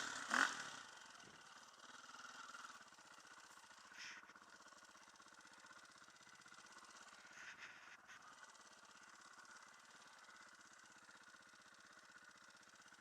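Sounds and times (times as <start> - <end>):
faint dirt bike engine idling: 0.0 - 13.0.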